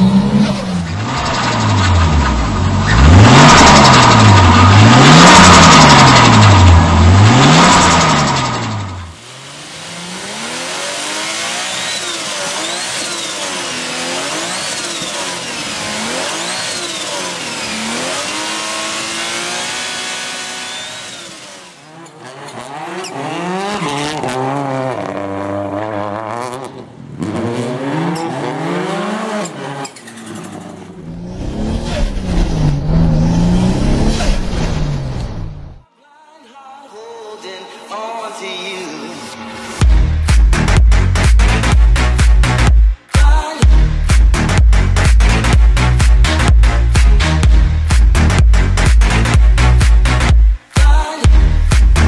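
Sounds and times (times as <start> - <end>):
car engines revving: 0.0 - 35.8, 43.7 - 52.0.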